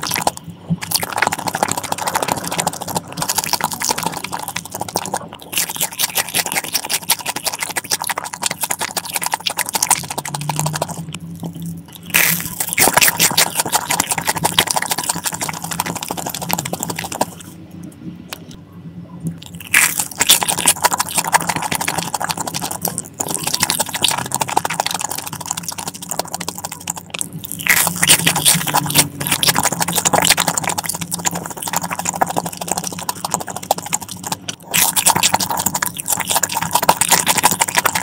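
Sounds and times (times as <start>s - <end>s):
crunching crisp food: 0.0s - 17.5s, 19.4s - 38.0s
faint low hum: 0.0s - 38.0s.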